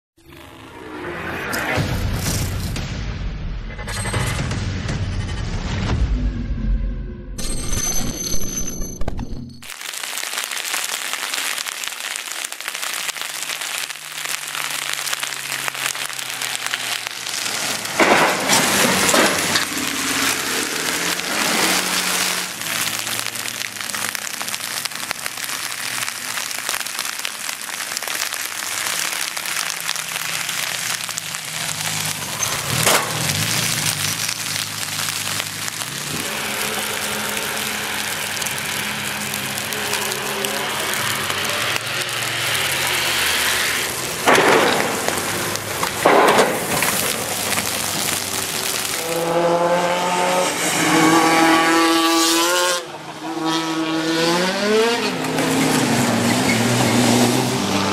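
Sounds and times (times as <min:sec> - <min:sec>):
car engines passing: 0:00.2 - 0:02.6, 0:13.8 - 0:57.9
heavy rain hissing: 0:09.7 - 0:57.9.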